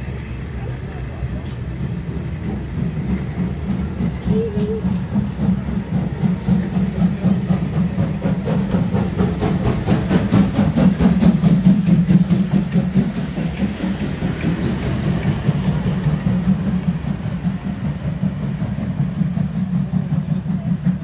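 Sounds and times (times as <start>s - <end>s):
rail clicks: 0.0s - 21.0s
train wheels rumbling on rails: 0.0s - 21.0s.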